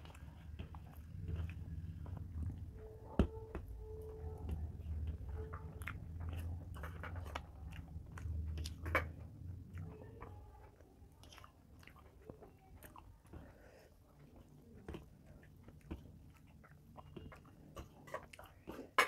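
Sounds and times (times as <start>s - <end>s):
fingers mixing food on a plate: 0.0s - 19.0s
person chewing food: 0.0s - 19.0s.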